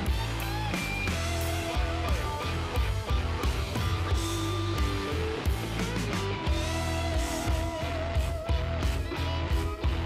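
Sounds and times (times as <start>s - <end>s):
guitar music: 0.0s - 10.0s
steady bass line: 0.0s - 10.0s.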